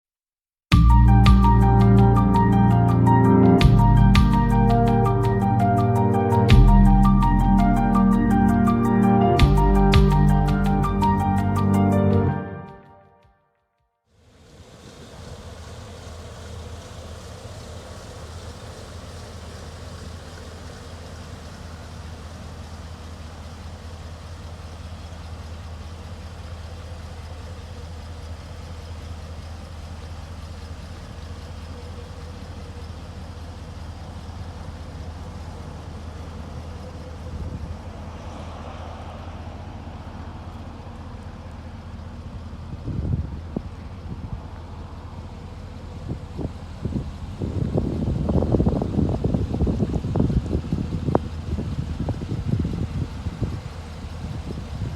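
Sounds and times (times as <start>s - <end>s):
truck engine idling: 0.7s - 13.0s, 14.2s - 54.9s.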